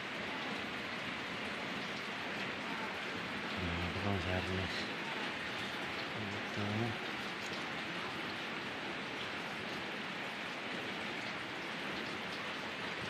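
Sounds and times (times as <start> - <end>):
steady rain-like hiss: 0.0 - 13.0.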